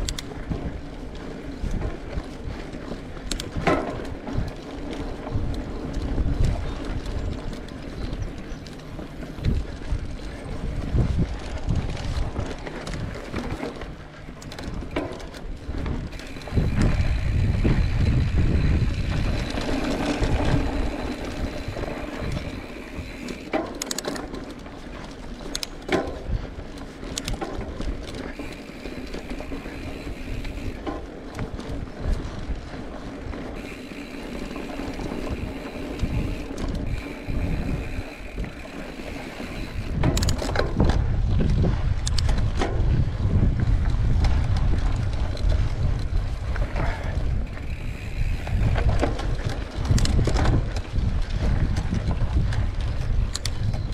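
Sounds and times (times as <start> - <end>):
bicycle freewheel hub buzzing: 0.0 - 53.9
bike knocking and rattling: 0.0 - 53.9
wind buffeting microphone: 0.0 - 53.9.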